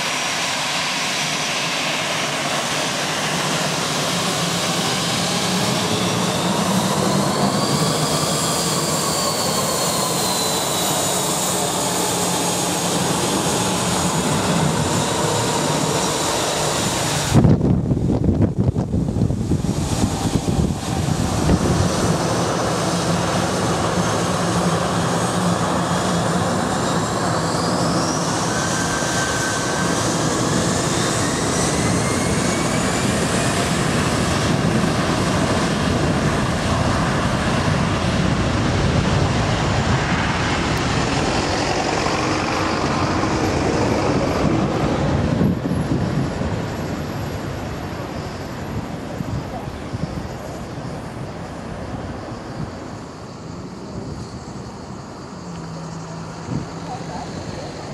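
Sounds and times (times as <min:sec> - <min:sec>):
jet engines spooling up: 0:00.0 - 0:57.9.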